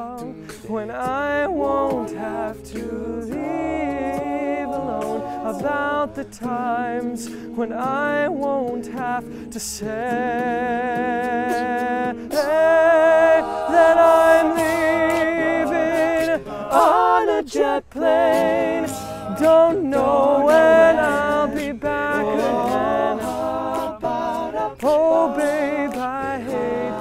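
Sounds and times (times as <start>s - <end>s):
male a cappella group singing: 0.0s - 27.0s.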